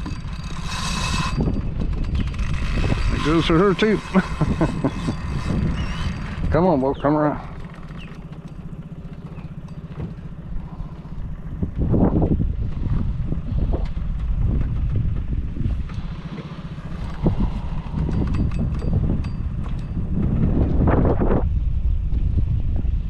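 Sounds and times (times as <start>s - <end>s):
small boat engine running: 0.0s - 23.0s
wind buffeting microphone: 0.0s - 23.0s.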